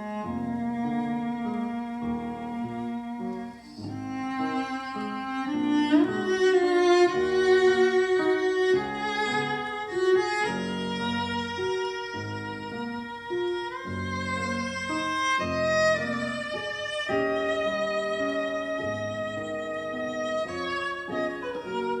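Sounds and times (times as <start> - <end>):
violin melody of held notes: 0.0 - 22.0.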